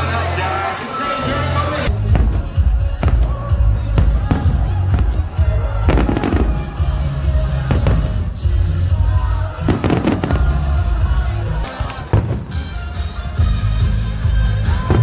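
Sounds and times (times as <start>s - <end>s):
heavy bass music: 1.2s - 15.0s
fireworks bangs: 1.8s - 15.0s.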